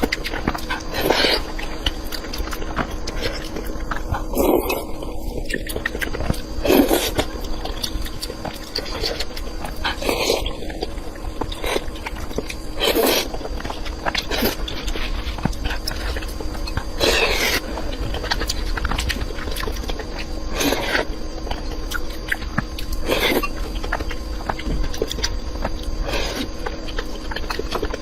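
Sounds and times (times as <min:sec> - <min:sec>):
chewing and wet mouth clicks: 0:00.0 - 0:28.0.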